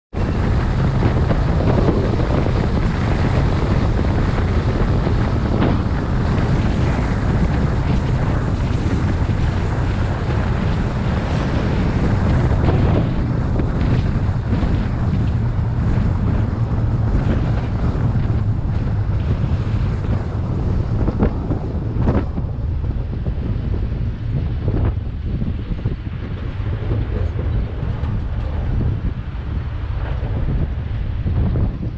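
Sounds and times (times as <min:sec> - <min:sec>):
vehicle tyres rumbling on road: 0:00.1 - 0:31.9
wind rushing over microphone: 0:00.1 - 0:31.9.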